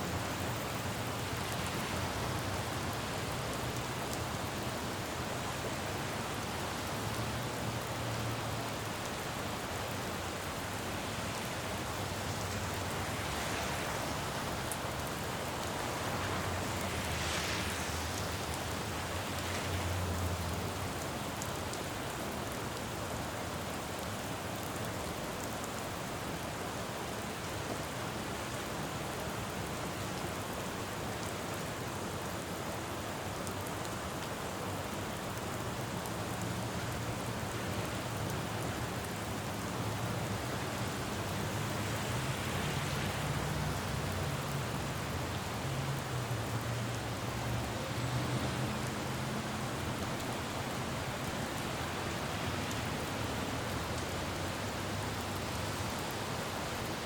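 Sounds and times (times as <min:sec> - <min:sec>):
car tyres swishing on wet road: 0:00.0 - 0:57.0
low hum of traffic: 0:00.0 - 0:57.0
rain on a road: 0:00.0 - 0:57.0.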